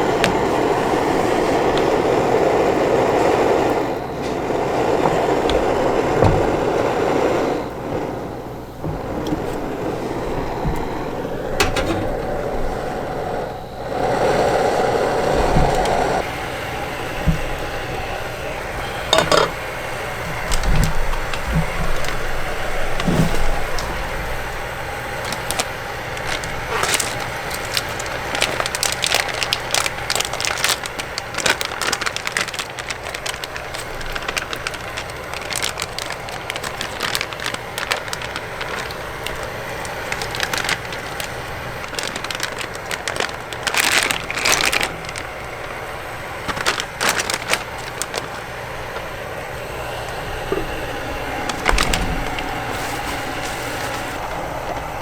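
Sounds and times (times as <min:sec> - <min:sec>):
steady rumbling: 0:00.0 - 0:55.0.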